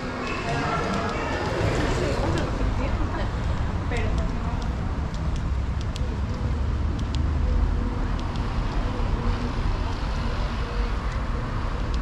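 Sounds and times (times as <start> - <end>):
faint engine hum: 0.0 - 12.0
low vehicle rumble: 0.0 - 12.0.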